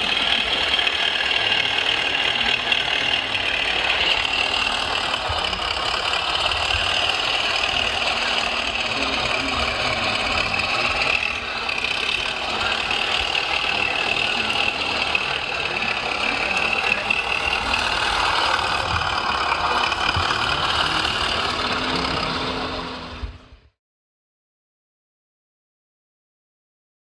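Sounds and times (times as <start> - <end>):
motors and gearing whining: 0.0 - 23.7.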